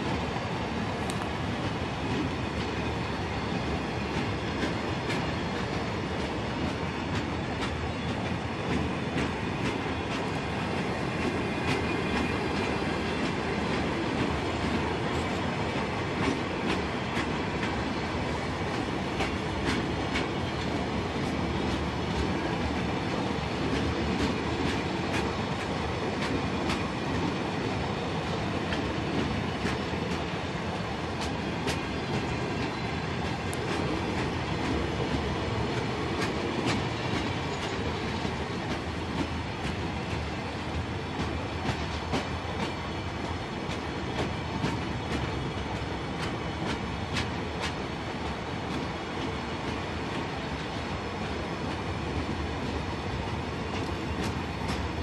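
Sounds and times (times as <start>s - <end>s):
steel wheels rumbling on rails: 0.0s - 55.0s.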